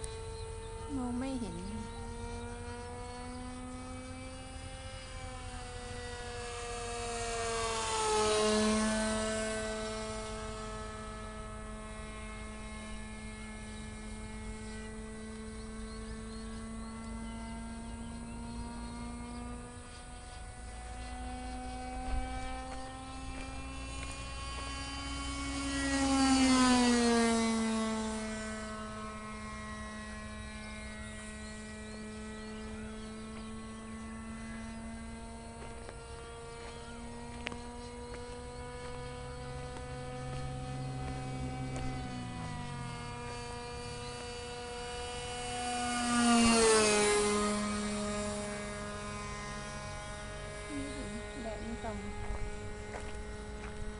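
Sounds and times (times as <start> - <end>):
model airplane engine passing: 0.0 - 53.9.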